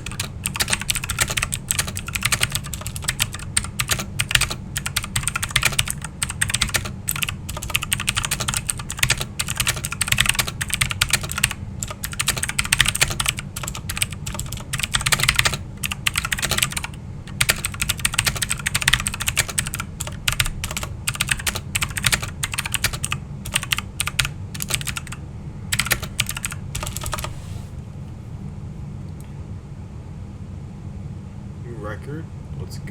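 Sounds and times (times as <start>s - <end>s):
clicky mechanical keyboard typing: 0.0s - 27.4s.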